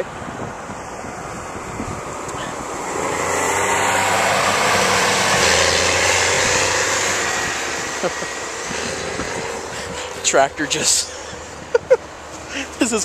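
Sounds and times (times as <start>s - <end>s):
road noise: 0.0s - 13.0s
tractor engine passing: 0.2s - 13.0s.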